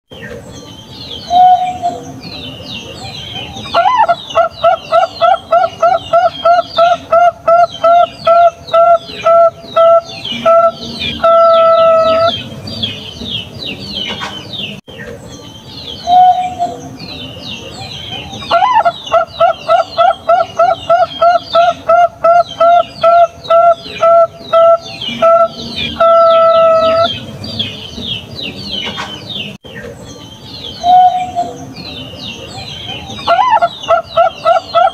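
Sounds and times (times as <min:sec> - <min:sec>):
dove cooing song: 0:01.2 - 0:14.7, 0:16.0 - 0:30.0, 0:30.7 - 0:34.9.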